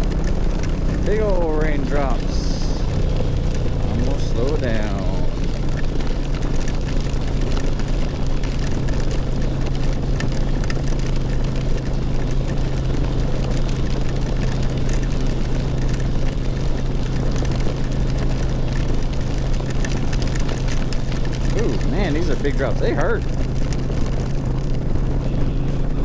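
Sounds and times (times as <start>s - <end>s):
raindrops ticking: 0.0s - 25.2s
motorcycle engine running: 0.0s - 26.0s
wind noise: 0.0s - 26.0s.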